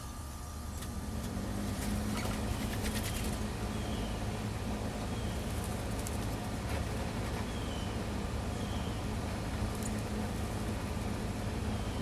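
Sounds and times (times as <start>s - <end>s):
small birds chirping: 2.0s - 12.0s.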